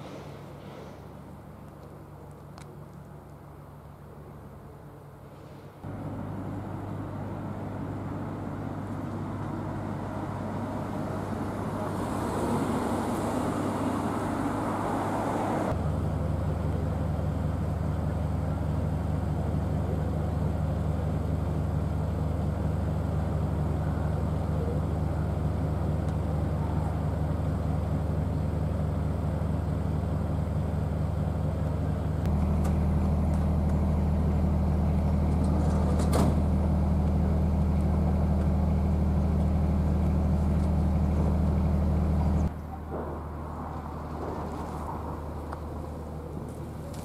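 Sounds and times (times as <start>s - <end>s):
low machine drone: 5.8s - 47.0s.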